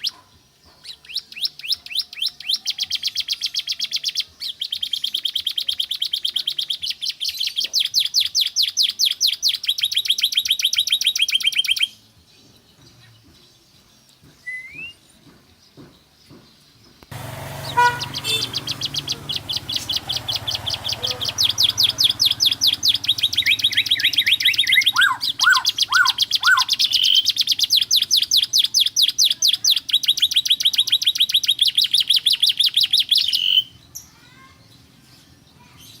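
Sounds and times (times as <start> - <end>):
canary singing: 0.0 - 12.1, 17.1 - 36.0.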